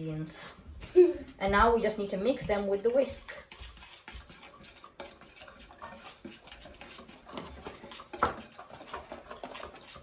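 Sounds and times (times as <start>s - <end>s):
whisk scraping a bowl: 1.6s - 10.0s.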